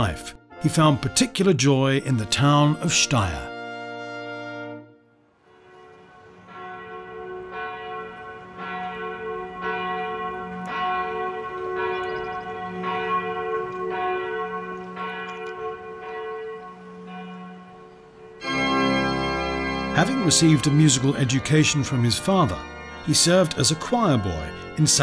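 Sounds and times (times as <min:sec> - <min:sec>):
church bell tolling: 0:00.0 - 0:04.8, 0:05.4 - 0:25.0.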